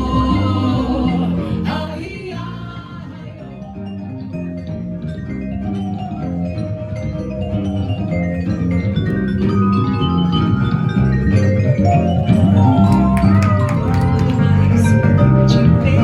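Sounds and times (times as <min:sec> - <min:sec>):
steady bass pattern: 0:00.0 - 0:16.0
plucked melody: 0:02.2 - 0:16.0.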